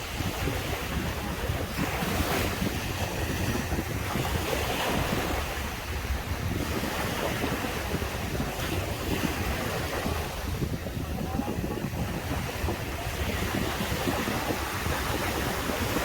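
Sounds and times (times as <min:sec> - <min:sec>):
surf washing onto beach: 0:00.0 - 0:16.0
wind on microphone: 0:00.0 - 0:16.0.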